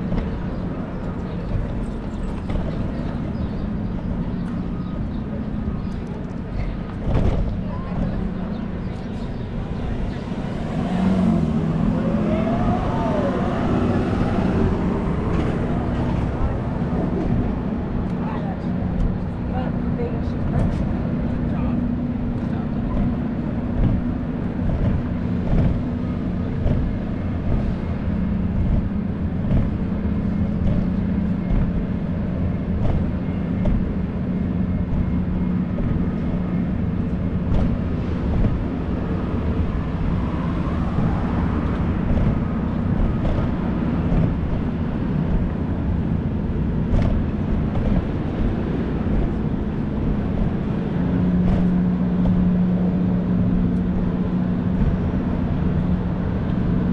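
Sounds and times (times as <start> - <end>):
constant low hum: 0.0 - 56.9
street traffic rumble: 0.0 - 56.9.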